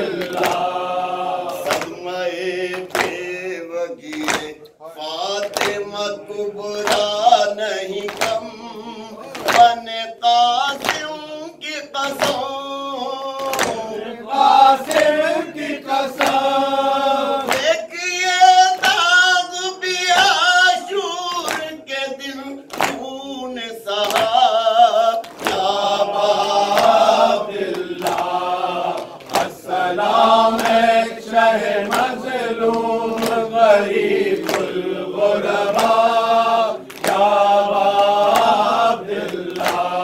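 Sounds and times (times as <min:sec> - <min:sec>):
lead reciter chanting: 0:00.0 - 0:40.0
men chanting in unison: 0:00.0 - 0:40.0.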